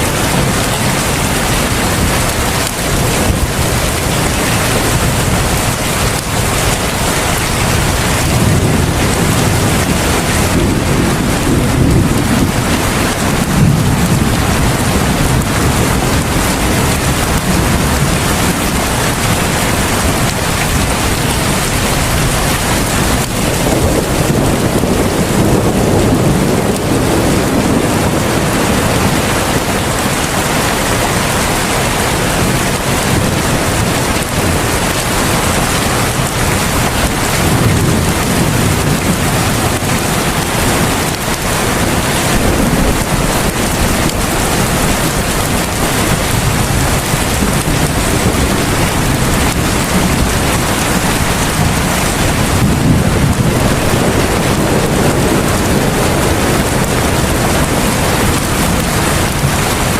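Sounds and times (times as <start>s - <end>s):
deep rumble: 0.0s - 59.9s
heavy rain falling: 0.0s - 59.9s.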